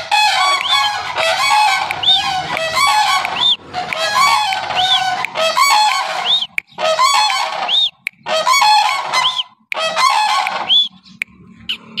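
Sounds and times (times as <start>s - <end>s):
cranes trumpeting calls: 0.0s - 11.0s.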